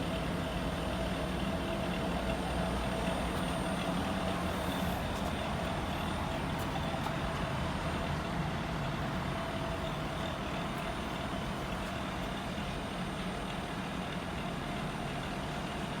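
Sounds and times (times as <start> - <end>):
air conditioner unit droning: 0.0 - 16.0.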